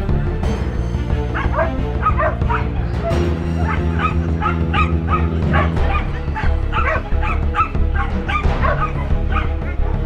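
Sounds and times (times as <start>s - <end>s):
music with low bass notes: 0.0s - 10.0s
dog barking and yipping: 1.3s - 9.9s.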